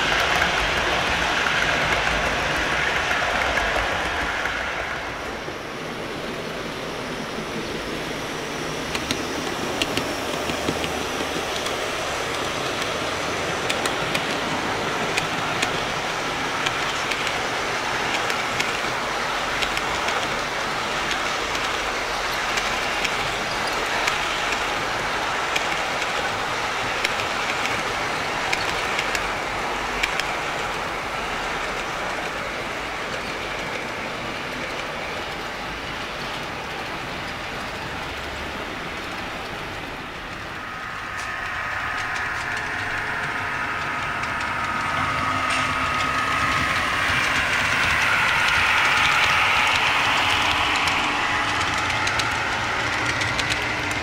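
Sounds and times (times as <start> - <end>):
model trains rolling: 0.0 - 54.0
passing train whine: 0.0 - 54.0.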